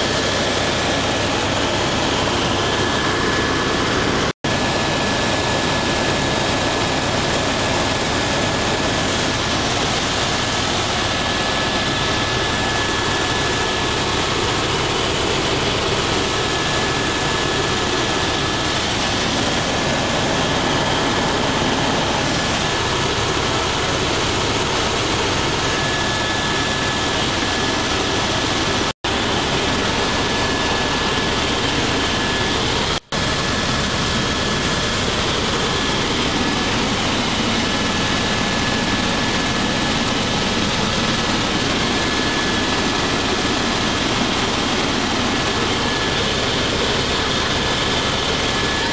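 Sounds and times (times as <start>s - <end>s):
helicopter turbine and rotors: 0.0s - 48.9s.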